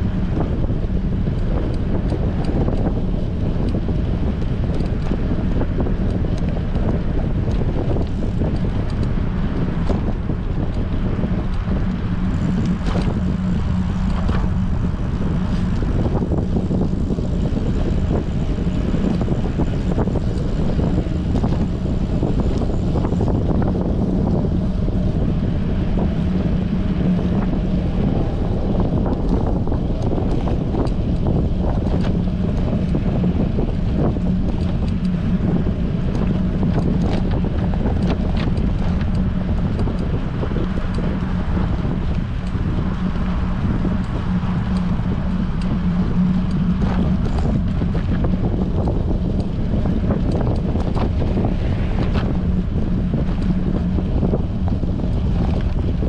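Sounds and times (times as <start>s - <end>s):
low hum: 0.0s - 56.0s
wind buffeting microphone: 0.0s - 56.0s.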